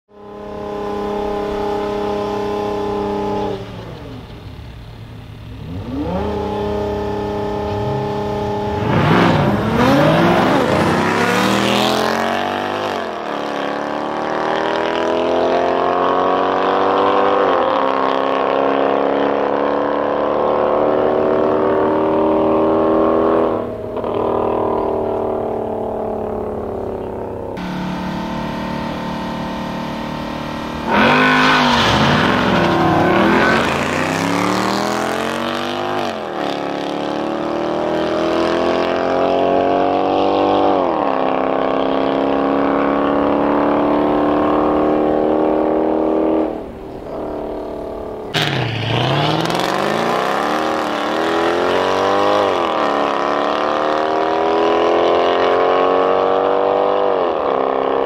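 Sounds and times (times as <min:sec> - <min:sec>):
car engine accelerating hard: 0:00.1 - 0:04.5, 0:05.1 - 0:58.0.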